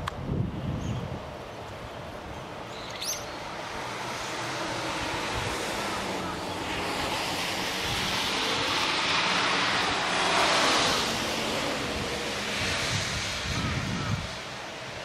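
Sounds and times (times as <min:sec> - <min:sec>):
wind-like outdoor rushing: 0:00.0 - 0:15.0.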